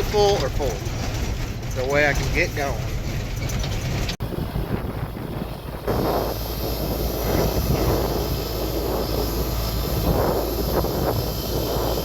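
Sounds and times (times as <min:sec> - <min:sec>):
low vehicle rumble: 0:00.0 - 0:12.0
wind buffeting microphone: 0:00.0 - 0:12.0.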